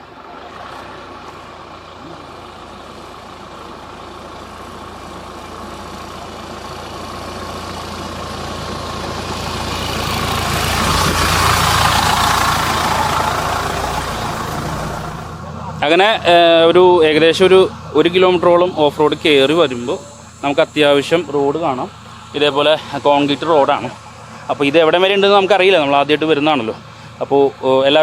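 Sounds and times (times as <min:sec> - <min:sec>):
off-road vehicle engine: 0:00.0 - 0:28.0.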